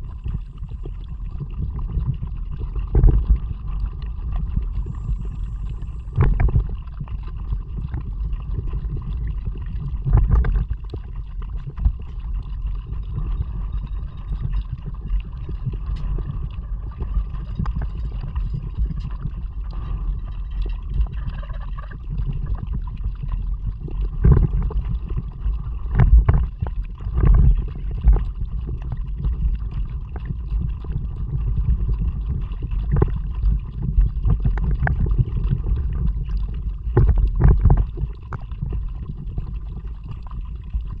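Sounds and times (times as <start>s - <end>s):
muffled water and wind rumble: 0.0s - 41.0s.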